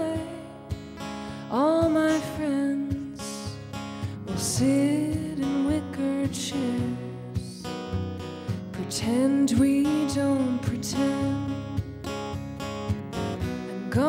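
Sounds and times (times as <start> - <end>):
woman singing: 0.0 - 7.9, 8.7 - 11.9, 13.5 - 14.0
acoustic guitar strumming: 0.0 - 14.0.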